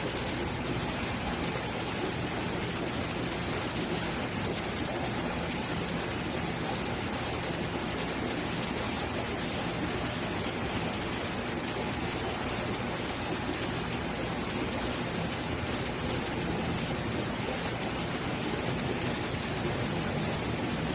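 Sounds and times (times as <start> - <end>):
bubbling water rushing: 0.0 - 20.9.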